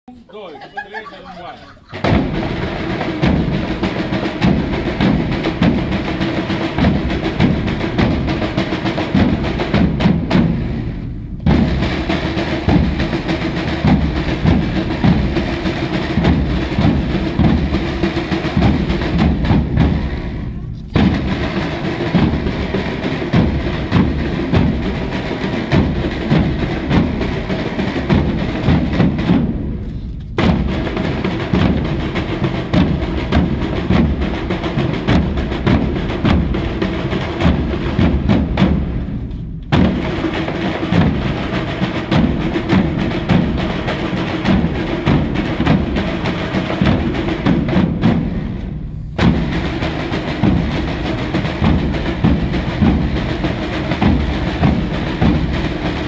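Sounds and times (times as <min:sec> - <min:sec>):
dense snare drumming: 0:00.4 - 0:56.0
bass drum beats: 0:01.8 - 0:56.0.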